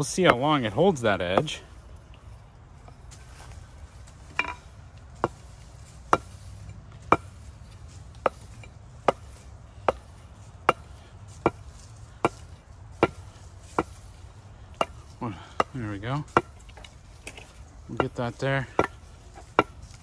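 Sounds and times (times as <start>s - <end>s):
steel axe head ringing: 0.0s - 3.5s, 4.1s - 20.0s
axe stroking on wooden strop: 0.0s - 20.0s.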